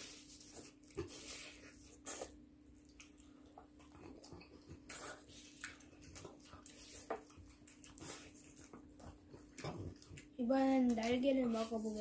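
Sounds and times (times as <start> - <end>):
faint steady hum: 0.0 - 12.0
wet chewing and lip-smacking: 0.2 - 11.2.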